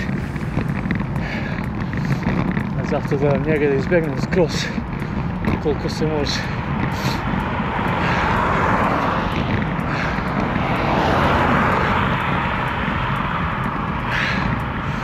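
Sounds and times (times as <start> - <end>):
traffic passing at speed: 0.0 - 15.0
wind rumble on microphone: 0.0 - 15.0.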